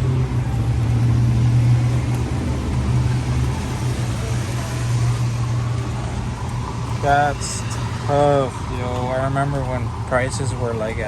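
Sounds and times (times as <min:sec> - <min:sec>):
car engine droning at low revs: 0:00.0 - 0:11.0.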